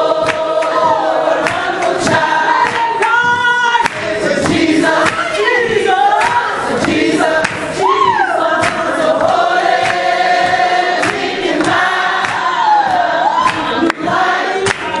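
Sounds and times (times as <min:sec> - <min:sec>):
congregation singing gospel song: 0:00.0 - 0:15.0
hand clapping on the beat: 0:00.0 - 0:15.0.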